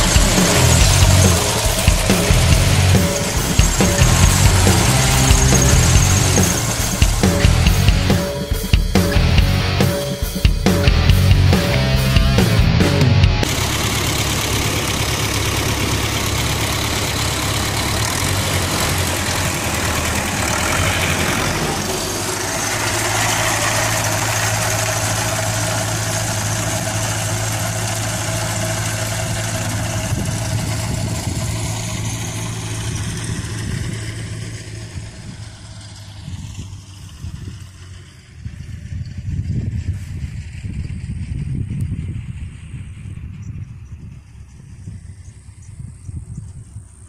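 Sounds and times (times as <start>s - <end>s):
tractor diesel engine mowing: 0.0s - 10.0s, 10.6s - 46.0s.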